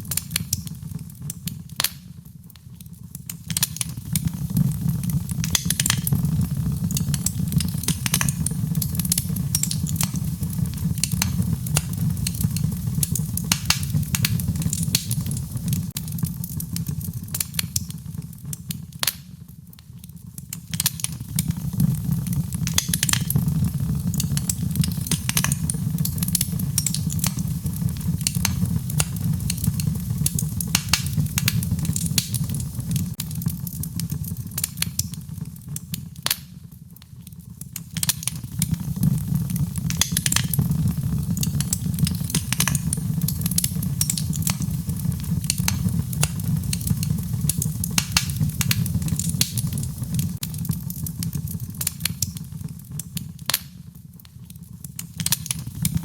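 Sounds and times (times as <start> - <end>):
gentle rain: 0.0 - 56.0
wood fire crackling and popping: 0.0 - 56.0.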